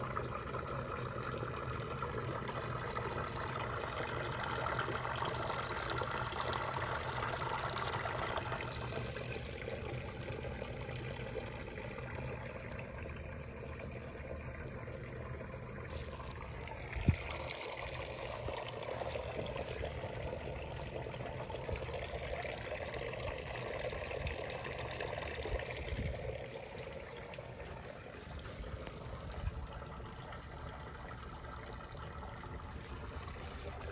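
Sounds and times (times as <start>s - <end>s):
water trickling and pouring: 0.0s - 33.9s.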